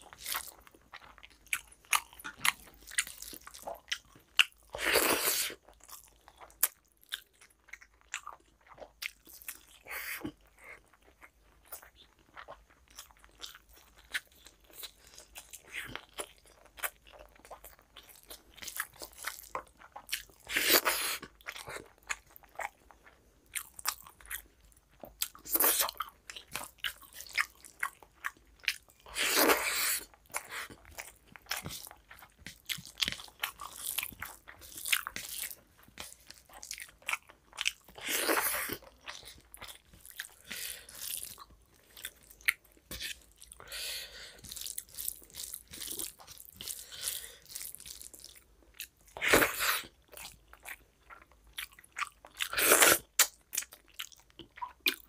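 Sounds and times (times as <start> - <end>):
wet chewing and mouth clicks: 0.0 - 55.0.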